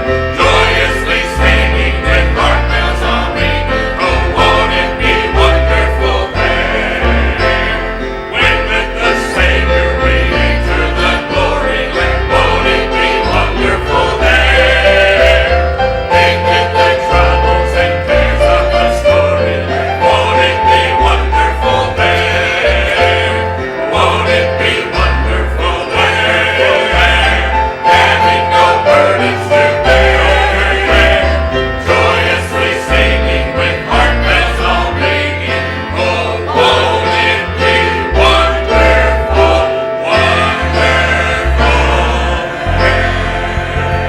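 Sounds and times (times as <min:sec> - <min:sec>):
group singing gospel hymn: 0:00.0 - 0:44.0.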